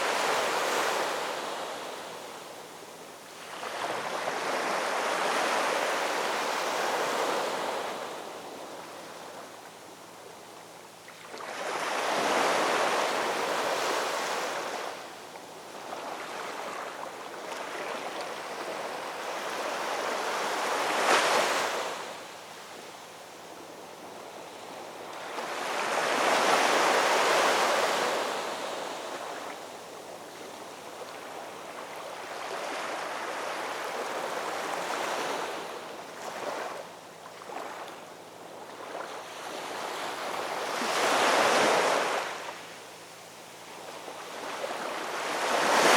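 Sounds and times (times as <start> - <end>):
ocean waves breaking on shore: 0.0 - 9.7, 11.2 - 22.8, 23.6 - 42.9, 43.6 - 45.9.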